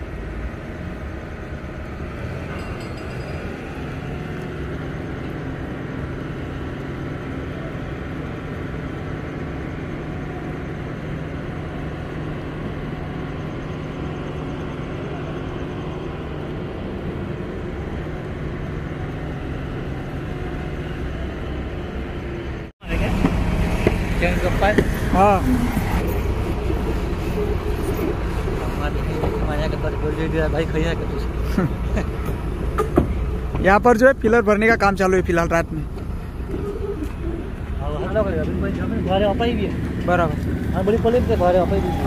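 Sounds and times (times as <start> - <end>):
heavy machinery engine drone: 0.0 - 42.0.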